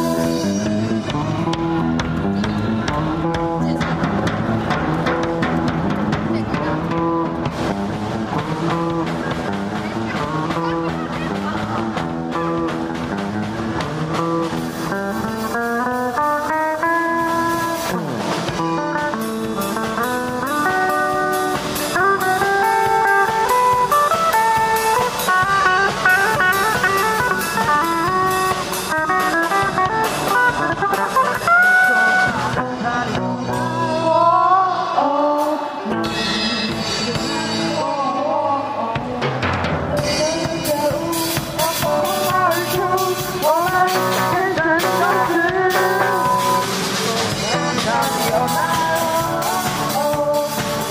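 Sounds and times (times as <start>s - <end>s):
person singing: 0.0s - 4.1s, 13.7s - 50.9s
electric guitar melody: 0.0s - 50.9s
rock band playing: 0.0s - 50.9s.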